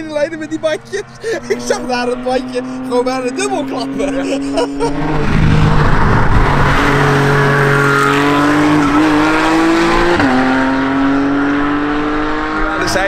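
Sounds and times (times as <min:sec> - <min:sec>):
race car accelerating away: 0:00.0 - 0:13.0.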